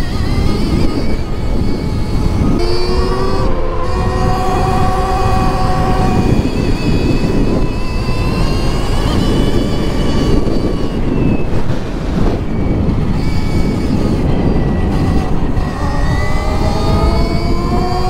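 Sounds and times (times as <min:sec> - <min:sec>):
electric motor whining: 0:00.0 - 0:18.0
wind rush on microphone: 0:00.0 - 0:18.0.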